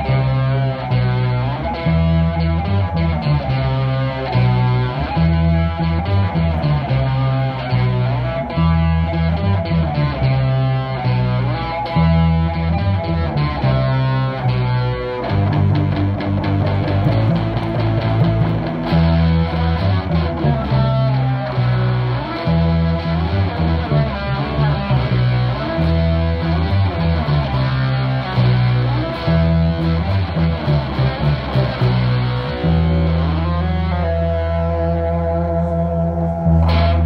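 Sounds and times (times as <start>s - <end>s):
electric bass line: 0.0s - 37.0s
electric guitar melody: 0.0s - 37.0s.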